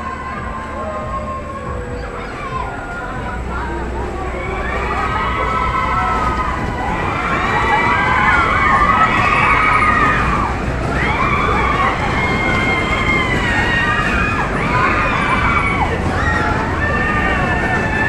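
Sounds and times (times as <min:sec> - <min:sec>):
ride cars rumbling on track: 0:00.0 - 0:18.0
riders screaming and whooping: 0:00.0 - 0:18.0.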